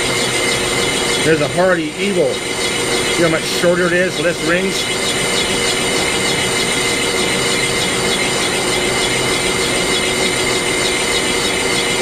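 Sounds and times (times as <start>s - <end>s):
metal lathe whirring: 0.0s - 12.0s.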